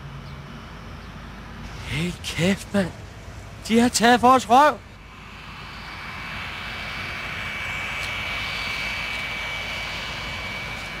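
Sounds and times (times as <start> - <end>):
high engine whine: 0.0 - 11.0
jet aircraft flying past: 0.0 - 11.0.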